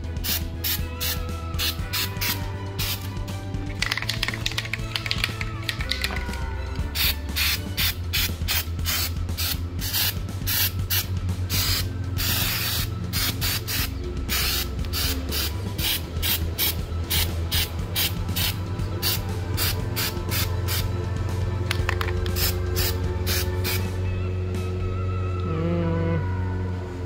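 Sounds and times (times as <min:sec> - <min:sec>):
aerosol can spraying: 0:00.2 - 0:20.9, 0:21.7 - 0:24.0.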